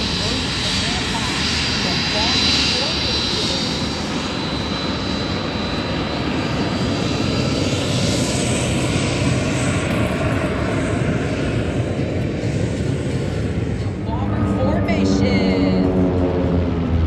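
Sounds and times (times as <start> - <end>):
airplane engines droning: 0.0 - 17.0.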